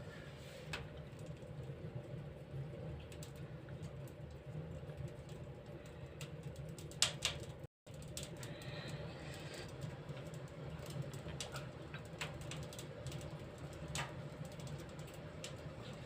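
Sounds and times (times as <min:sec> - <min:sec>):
low steady hum: 0:00.0 - 0:16.0
wood fire crackling: 0:00.0 - 0:16.0.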